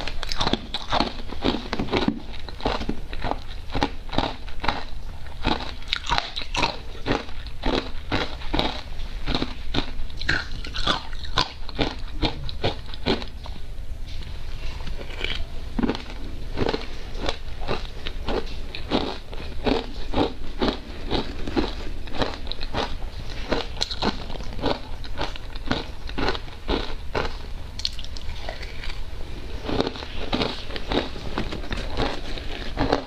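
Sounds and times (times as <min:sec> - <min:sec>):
ice crunching while chewed: 0:00.0 - 0:13.4, 0:14.8 - 0:33.0.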